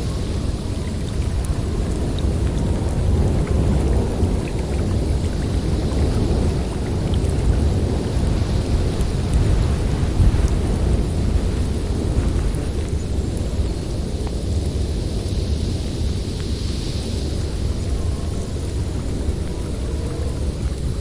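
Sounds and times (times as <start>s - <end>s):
blizzard wind rumbling: 0.0s - 21.0s.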